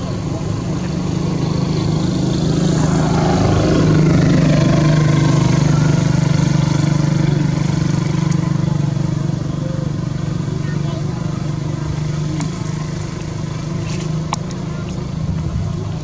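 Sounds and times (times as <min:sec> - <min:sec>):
motor engine drone: 0:00.0 - 0:16.0.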